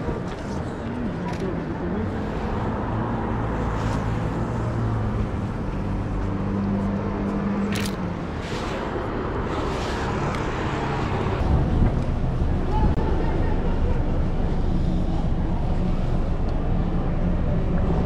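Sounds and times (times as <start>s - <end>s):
road noise: 0.0s - 18.0s
vehicle engines running: 0.0s - 18.0s.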